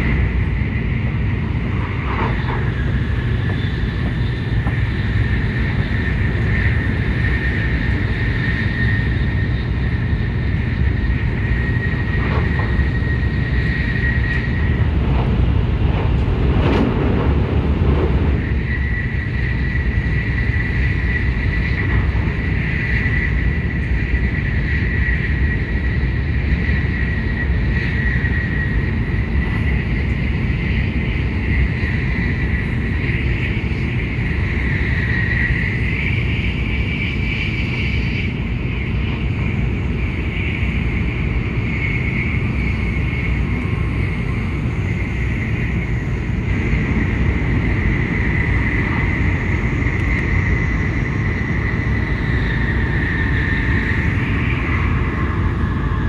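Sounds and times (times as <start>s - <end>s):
thin high whine: 0.0s - 56.0s
train cabin rumble and hiss: 0.0s - 56.0s.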